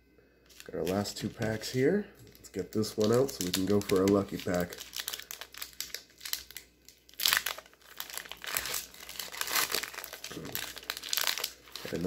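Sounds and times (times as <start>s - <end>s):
foil wrapper crinkling: 0.5s - 12.0s.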